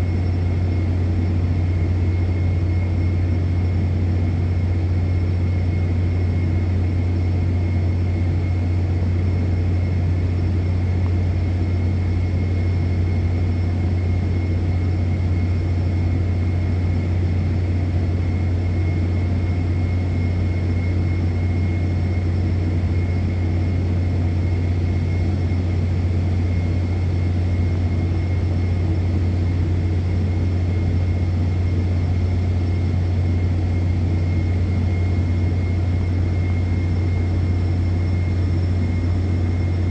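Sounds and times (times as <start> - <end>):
faint thin whine: 0.0 - 39.9.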